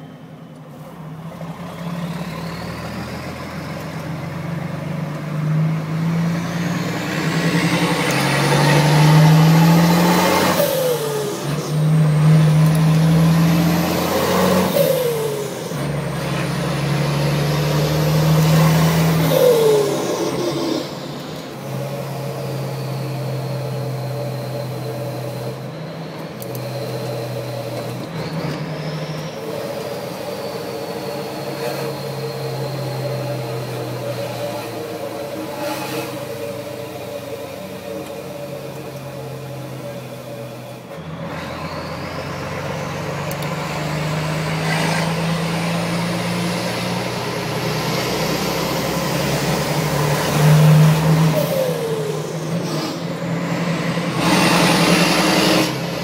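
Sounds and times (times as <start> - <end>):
truck diesel engine running: 0.0 - 56.0
turbocharger whistling: 0.0 - 56.0.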